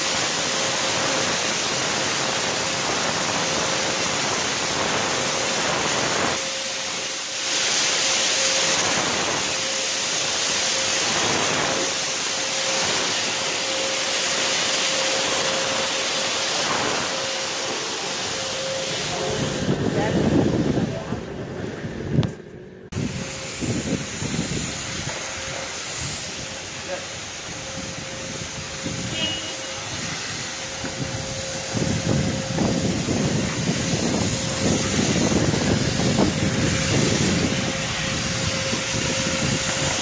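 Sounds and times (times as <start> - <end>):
fogger blower hissing: 0.0 - 40.0.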